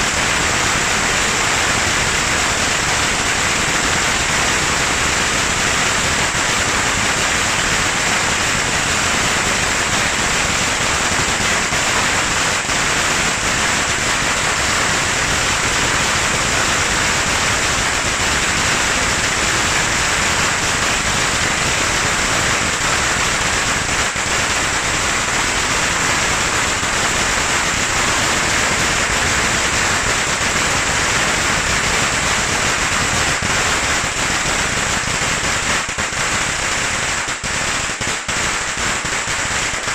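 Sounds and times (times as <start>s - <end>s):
firecrackers rattling bangs: 0.0s - 39.9s.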